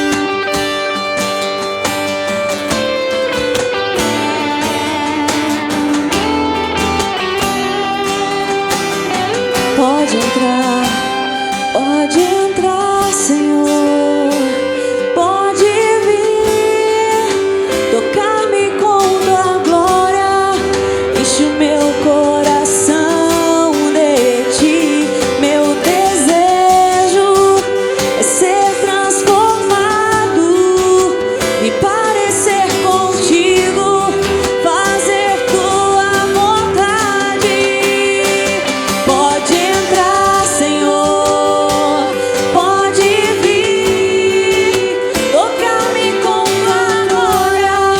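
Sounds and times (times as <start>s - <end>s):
live band playing worship song: 0.0s - 47.9s.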